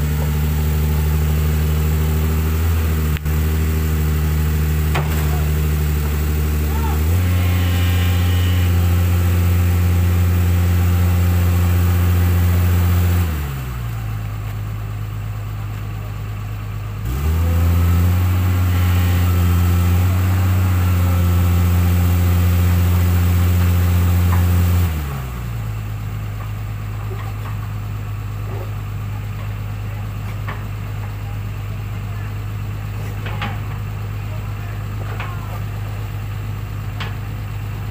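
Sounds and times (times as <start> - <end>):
excavator diesel engine revving: 0.0 - 37.9.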